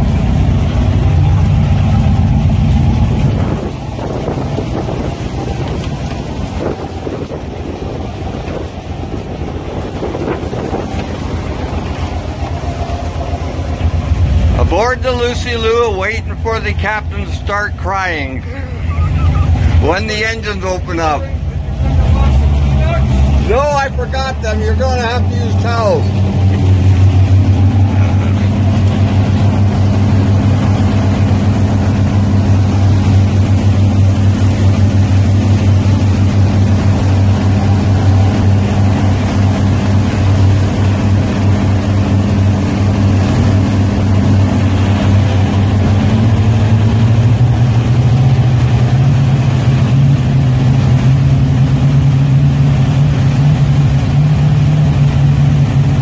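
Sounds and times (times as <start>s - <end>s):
boat engines running: 0.0s - 56.0s.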